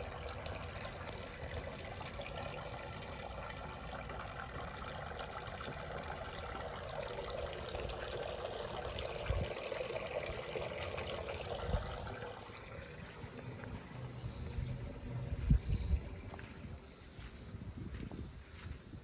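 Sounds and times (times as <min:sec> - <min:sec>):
water pouring and splashing: 0:00.0 - 0:16.6.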